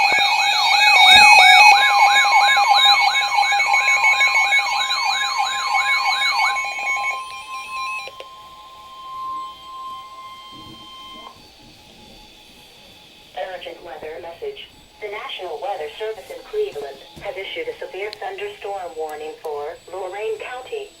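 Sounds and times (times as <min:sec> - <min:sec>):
electronic alert siren sweeping: 0:00.0 - 0:20.8
steady single-pitch alarm tone: 0:00.0 - 0:21.0.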